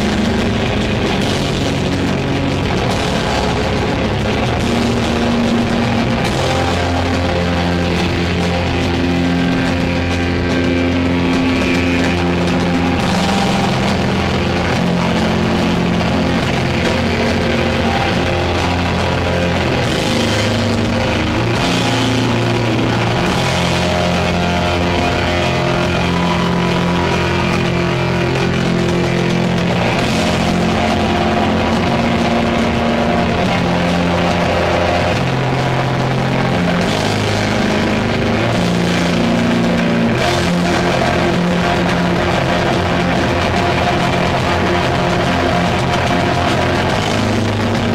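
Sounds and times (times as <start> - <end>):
distorted guitar and bass riff: 0.0 - 47.9
heavy metal band playing: 0.0 - 47.9
pounding drums: 0.0 - 47.9.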